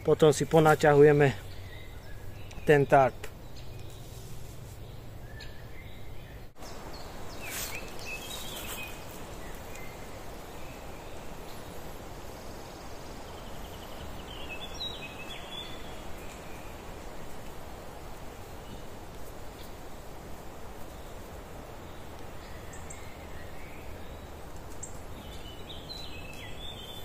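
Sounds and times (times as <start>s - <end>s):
woodland background noise: 0.0s - 27.0s.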